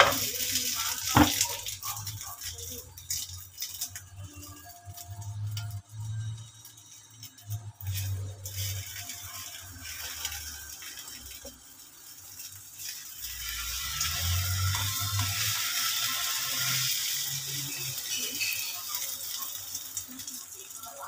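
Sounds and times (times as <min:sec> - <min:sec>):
omelette sizzling in oil: 0:00.0 - 0:21.0.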